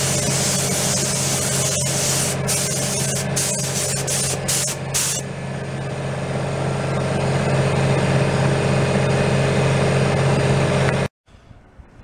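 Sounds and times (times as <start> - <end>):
air compressor humming: 0.0 - 11.1.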